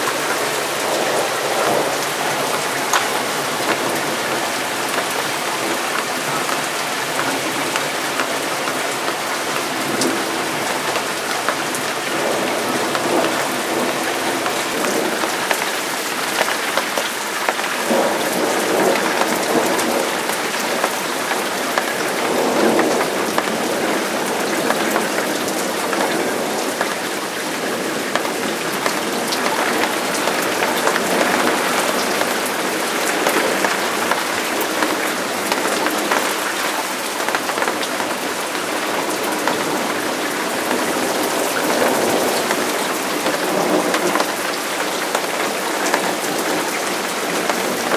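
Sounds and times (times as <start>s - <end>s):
heavy rain pouring: 0.0s - 47.9s
raindrops ticking: 0.0s - 47.9s.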